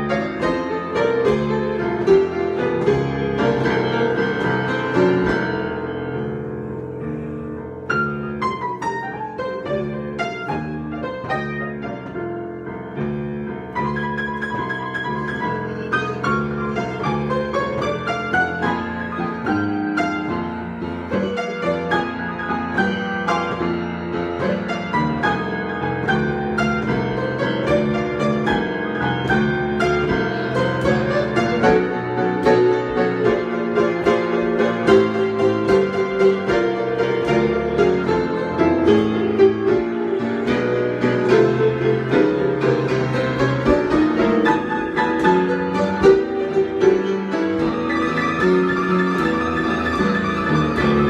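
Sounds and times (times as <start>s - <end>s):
solo piano improvisation: 0.0s - 51.0s.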